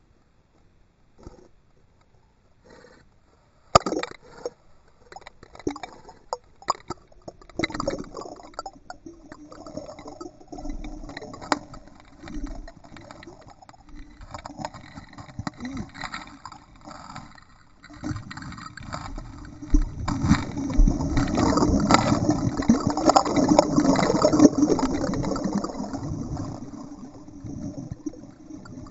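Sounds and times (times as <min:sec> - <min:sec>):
muffled water sloshing: 0:05.2 - 0:28.9.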